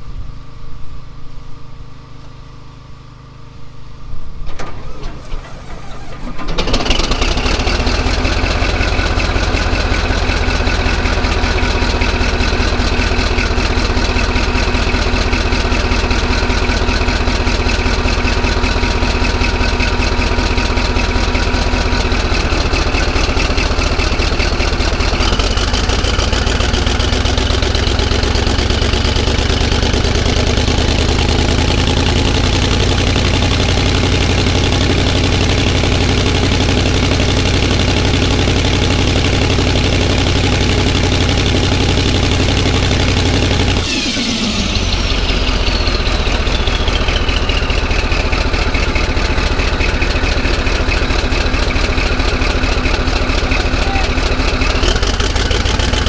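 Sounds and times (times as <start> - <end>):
bulldozer diesel engine revving: 4.6 - 56.0.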